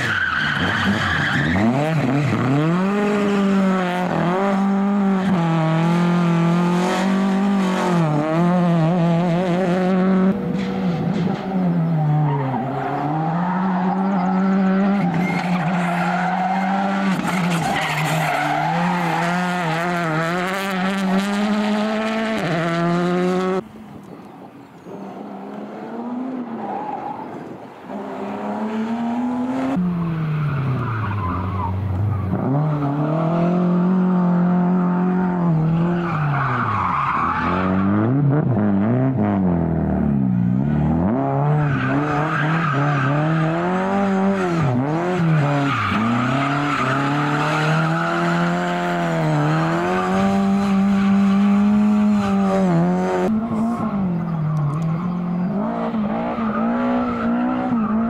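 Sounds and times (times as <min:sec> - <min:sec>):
rally car engine revving: 0:00.0 - 0:23.6, 0:27.9 - 0:58.0.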